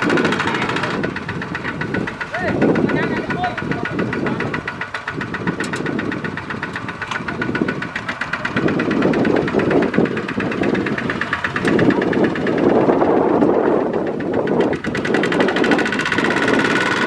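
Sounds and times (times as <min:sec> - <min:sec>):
diesel tractor engine knocking: 0:00.0 - 0:17.0.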